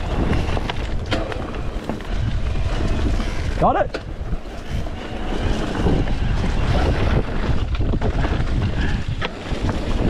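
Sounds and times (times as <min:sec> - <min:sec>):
bike knocking and rattling: 0:00.0 - 0:10.0
wind buffeting microphone: 0:00.0 - 0:10.0.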